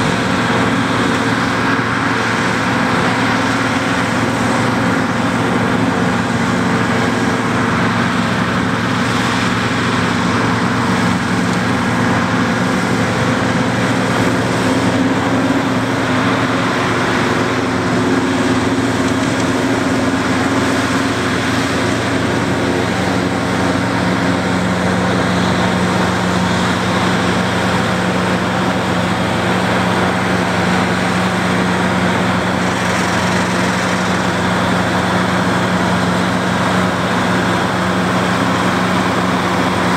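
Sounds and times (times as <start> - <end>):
forage harvester whirring: 0.0 - 39.9
tractor diesel engine under load: 0.0 - 39.9.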